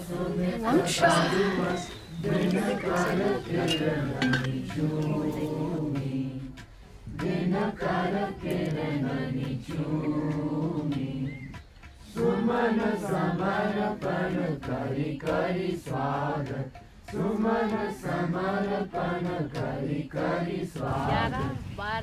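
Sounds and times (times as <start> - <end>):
voices singing a chant: 0.0 - 22.0.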